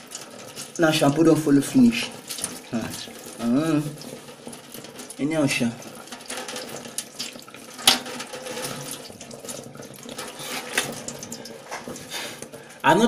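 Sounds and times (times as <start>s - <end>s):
tap water splashing into metal sink: 0.0s - 13.0s.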